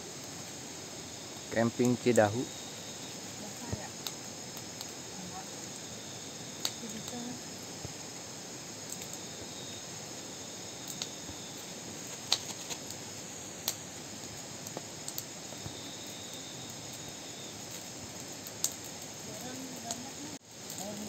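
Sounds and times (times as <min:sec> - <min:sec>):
campfire crackling: 0:00.0 - 0:21.0
night insects humming: 0:00.0 - 0:21.0.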